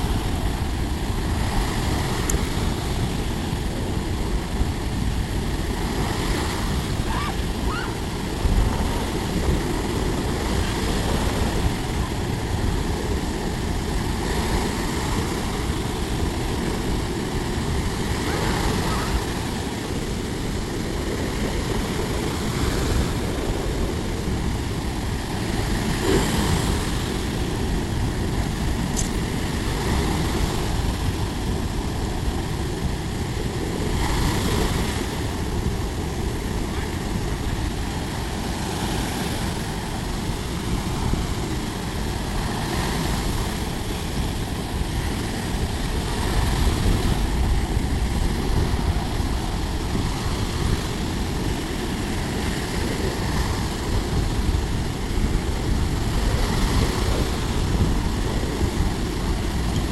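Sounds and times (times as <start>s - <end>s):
sea waves breaking: 0.0s - 59.9s
wind rumble on microphone: 0.0s - 59.9s.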